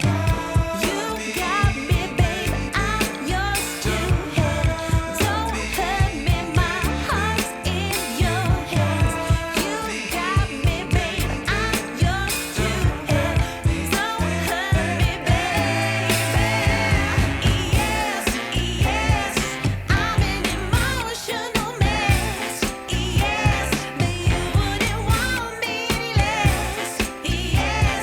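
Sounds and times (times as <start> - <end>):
steady beat and bass: 0.0 - 9.7, 10.4 - 28.0
pop song with female vocals: 0.0 - 28.0.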